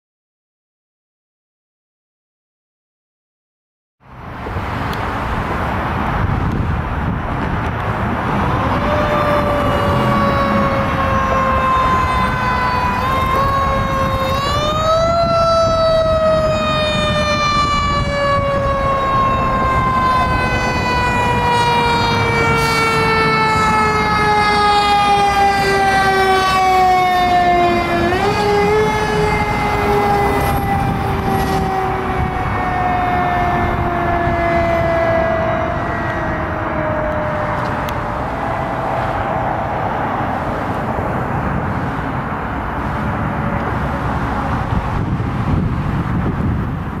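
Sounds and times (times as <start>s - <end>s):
truck and traffic rumble: 4.0s - 47.0s
fire engine siren wailing: 7.6s - 47.0s.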